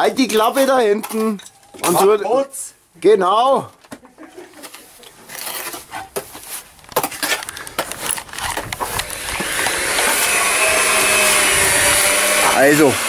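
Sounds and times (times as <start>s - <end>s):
trowel scraping: 0.0s - 2.2s, 4.6s - 13.0s.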